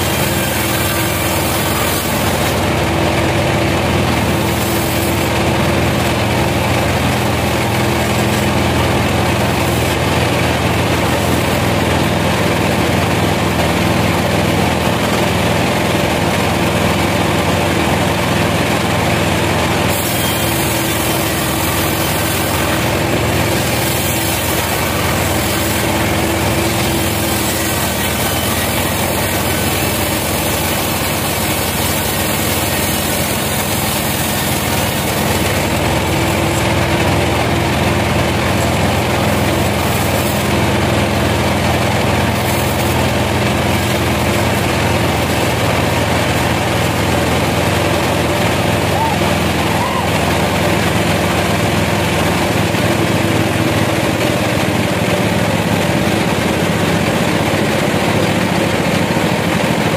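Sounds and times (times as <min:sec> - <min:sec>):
band saw cutting through log: 0:00.0 - 0:59.9.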